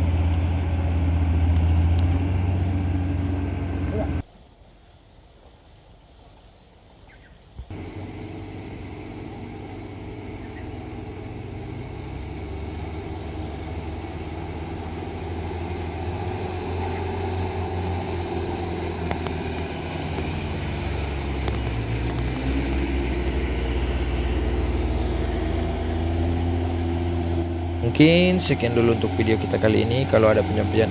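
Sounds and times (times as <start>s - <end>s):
truck diesel engine under load: 0.0s - 4.2s, 7.7s - 30.9s.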